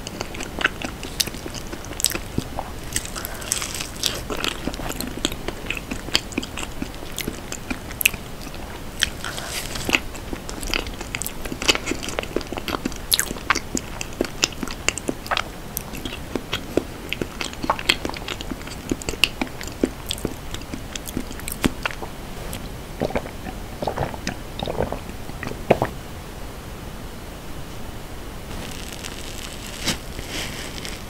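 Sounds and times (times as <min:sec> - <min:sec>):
person chewing with wet clicks: 0:00.0 - 0:25.9
person gulping a drink: 0:00.0 - 0:26.0.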